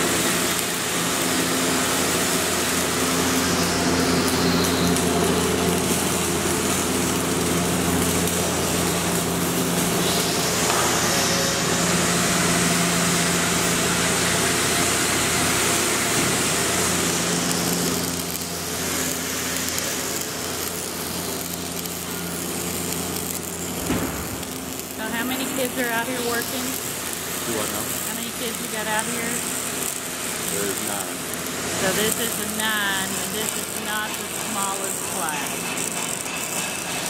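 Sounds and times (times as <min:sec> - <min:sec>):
machinery hum: 0:00.0 - 0:37.0.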